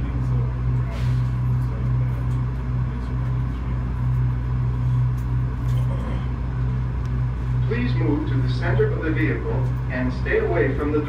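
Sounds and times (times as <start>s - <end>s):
people mover car humming: 0.0s - 11.0s.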